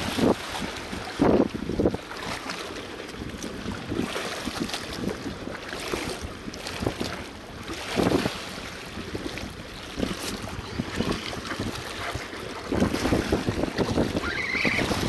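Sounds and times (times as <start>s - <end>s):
water lapping against rocks: 0.0s - 15.0s
wind buffeting microphone: 0.0s - 15.0s.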